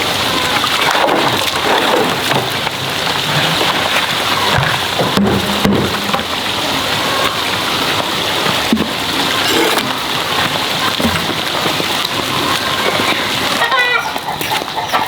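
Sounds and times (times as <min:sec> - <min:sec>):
splashing rushing water: 0:00.0 - 0:15.0.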